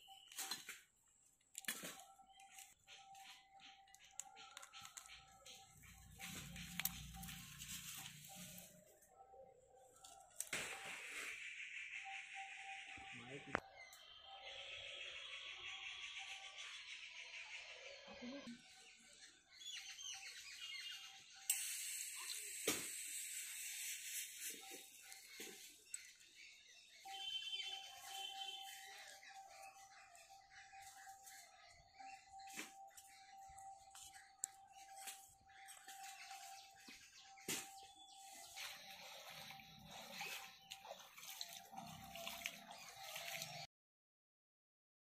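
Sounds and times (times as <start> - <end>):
small birds chirping: 0.0 - 43.7.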